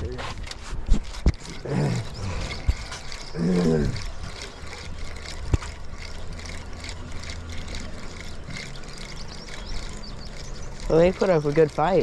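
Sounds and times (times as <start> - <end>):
boat motor running: 0.0 - 12.0
water noise: 0.0 - 12.0.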